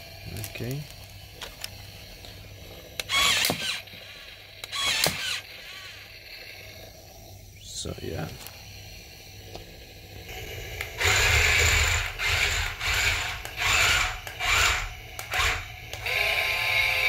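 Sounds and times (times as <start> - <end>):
toy tank motors whirring: 0.0 - 17.0.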